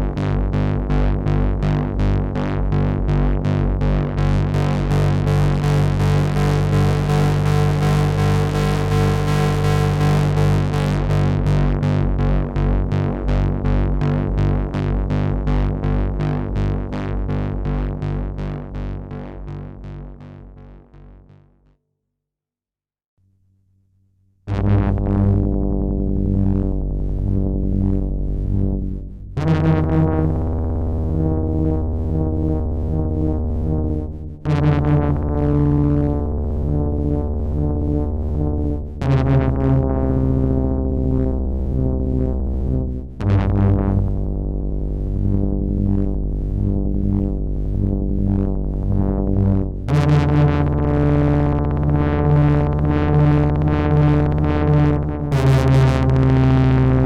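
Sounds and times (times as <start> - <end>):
synthesizer playing low notes: 0.0 - 21.6, 24.5 - 57.0.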